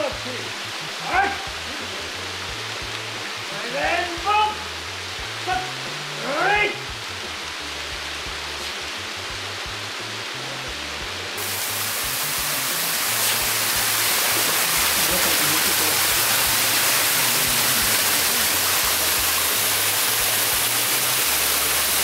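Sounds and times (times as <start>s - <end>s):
low background music: 0.0s - 22.0s
waterfall rushing: 0.0s - 22.0s.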